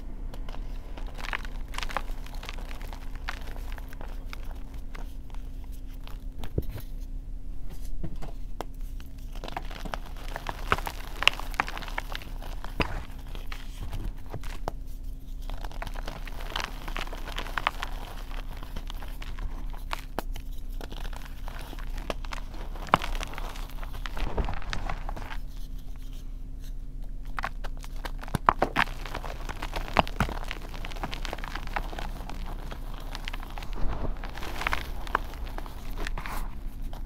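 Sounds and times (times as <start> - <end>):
hands crushing chalk: 0.3 - 7.1, 7.8 - 37.0.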